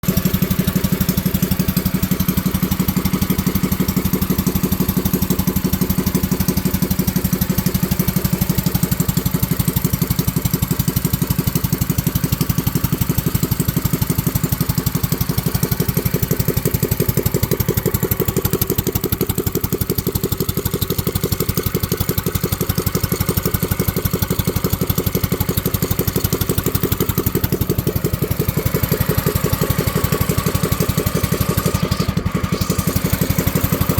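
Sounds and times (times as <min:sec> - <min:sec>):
small engine idling: 0:00.0 - 0:33.9.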